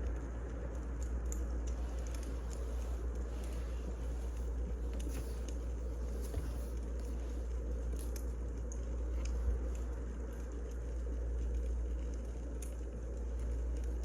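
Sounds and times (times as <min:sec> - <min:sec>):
firewood crackling: 0:00.0 - 0:14.0
steady low hum: 0:00.0 - 0:14.0.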